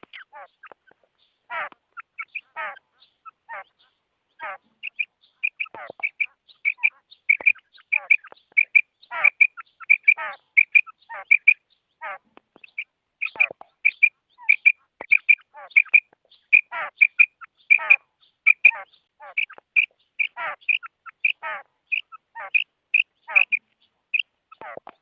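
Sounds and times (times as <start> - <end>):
quail rasping calls: 0.0 - 25.0.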